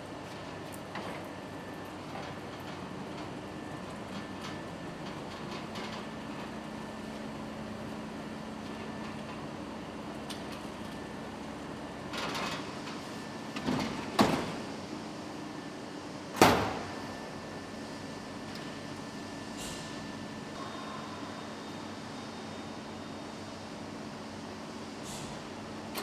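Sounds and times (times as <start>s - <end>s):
machinery hum: 0.0s - 26.0s.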